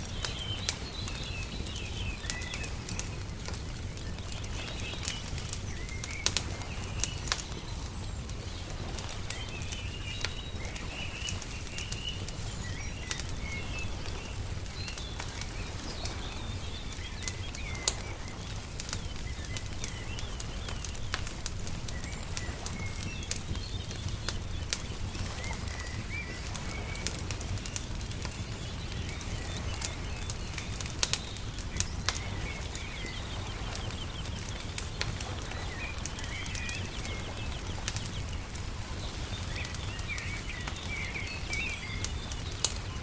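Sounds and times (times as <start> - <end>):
small birds chirping: 0.0 - 43.0
wood fire crackling and popping: 0.0 - 43.0.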